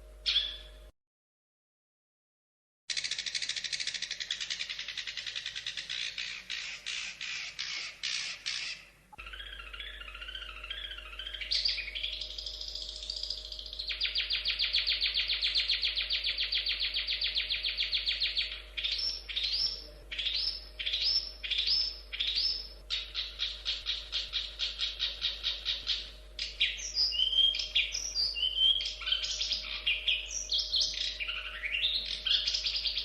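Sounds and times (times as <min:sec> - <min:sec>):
bird singing varied song: 0:00.0 - 0:00.9, 0:02.9 - 0:33.0
faint steady hum: 0:00.0 - 0:00.9, 0:03.6 - 0:33.0.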